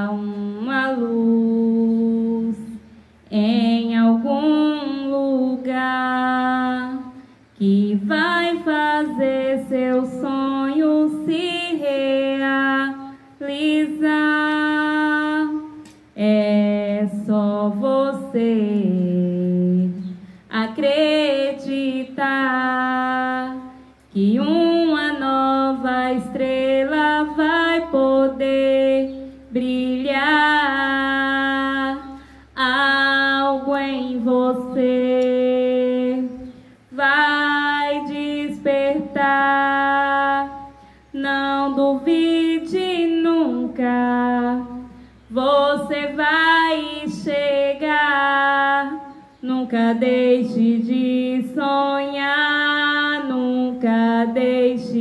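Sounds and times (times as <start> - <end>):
woman singing into a microphone: 0.0 - 55.0.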